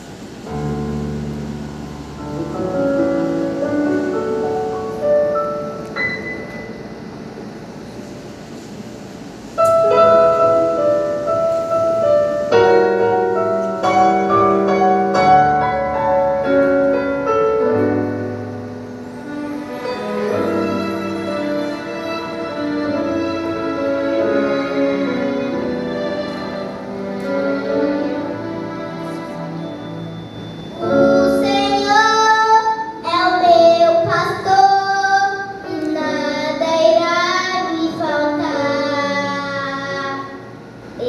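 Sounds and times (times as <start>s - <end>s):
slow piano melody: 0.0s - 41.0s.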